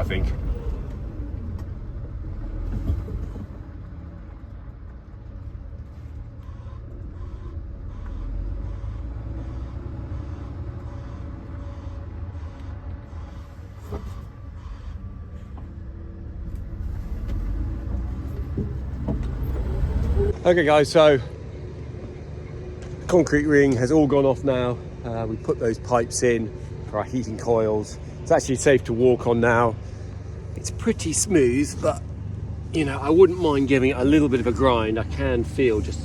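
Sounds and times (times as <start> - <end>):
truck diesel engine rumble: 0.0 - 36.0.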